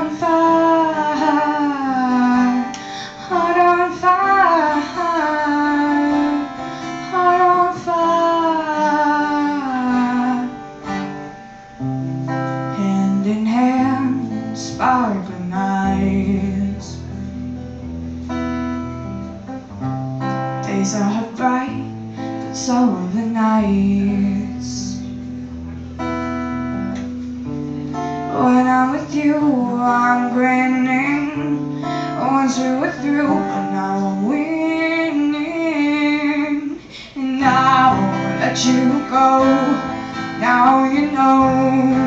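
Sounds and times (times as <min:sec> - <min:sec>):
woman singing: 0:00.0 - 0:11.3, 0:12.5 - 0:17.2, 0:20.6 - 0:25.3, 0:27.9 - 0:42.0
acoustic guitar: 0:00.0 - 0:42.0.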